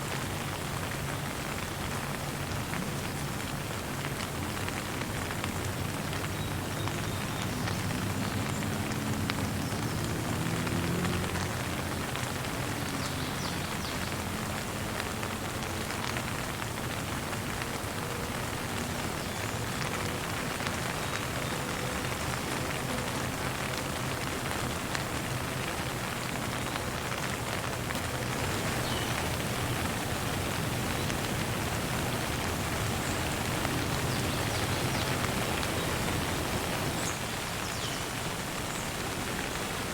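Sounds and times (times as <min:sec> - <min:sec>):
gentle rain pattering: 0:00.0 - 0:39.9.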